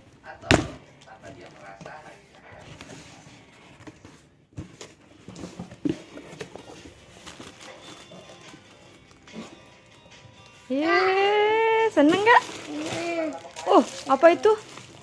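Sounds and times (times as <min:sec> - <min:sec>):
cardboard parcel rustling: 0:00.5 - 0:15.0.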